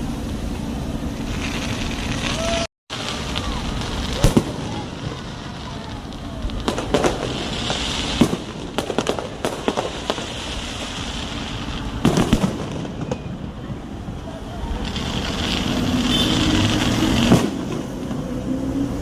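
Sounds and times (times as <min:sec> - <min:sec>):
crackling hiss: 0:00.0 - 0:19.0
fireworks bangs: 0:00.6 - 0:18.6.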